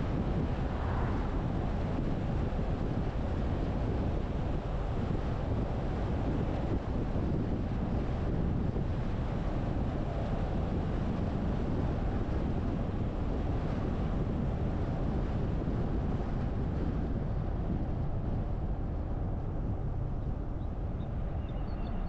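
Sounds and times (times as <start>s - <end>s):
car wind and road noise: 0.0s - 22.0s.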